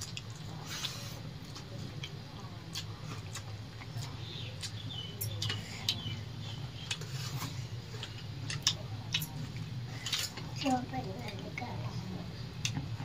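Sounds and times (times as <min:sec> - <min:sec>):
chewing: 0:00.0 - 0:10.6
steady low hum: 0:00.0 - 0:13.0.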